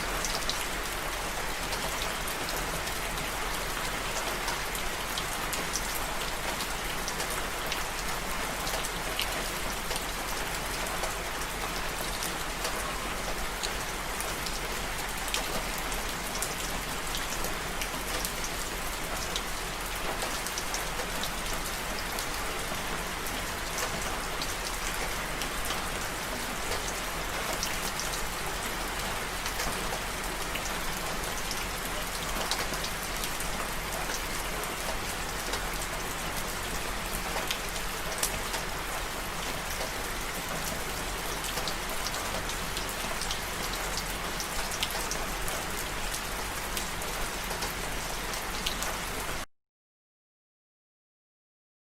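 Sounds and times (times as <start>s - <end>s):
steady rain falling: 0.0s - 49.5s.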